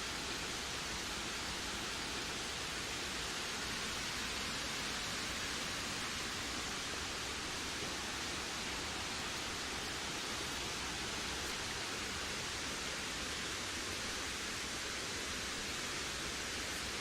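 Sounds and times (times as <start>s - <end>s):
steady wind: 0.0s - 17.0s.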